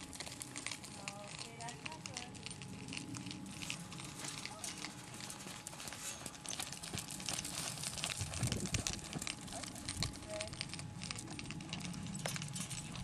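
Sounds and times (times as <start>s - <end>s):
dull hoofbeats on dirt: 0.0s - 13.0s
steady crackling noise: 0.0s - 13.0s.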